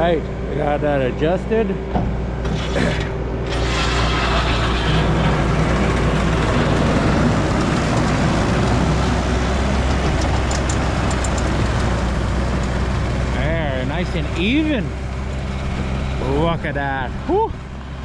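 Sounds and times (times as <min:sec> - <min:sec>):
skid steer engine under load: 0:00.0 - 0:18.0.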